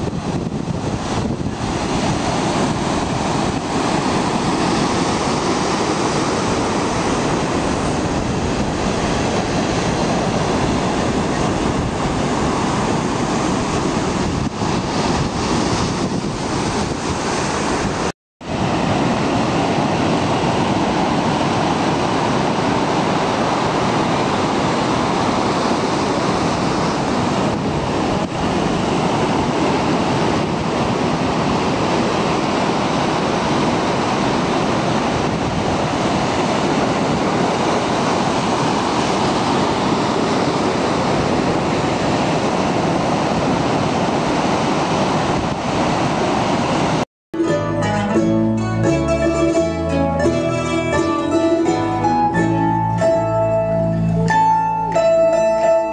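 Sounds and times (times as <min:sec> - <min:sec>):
surf breaking over rocks: 0:00.0 - 0:47.0.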